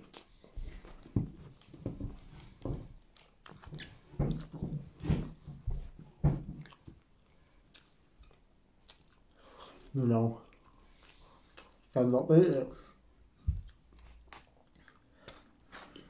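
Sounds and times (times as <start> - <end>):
person chewing food: 0.0 - 5.4, 6.5 - 16.0.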